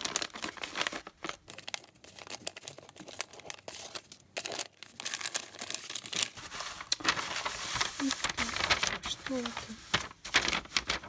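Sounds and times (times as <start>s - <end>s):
paper bag rustling and crinkling: 0.0s - 11.0s.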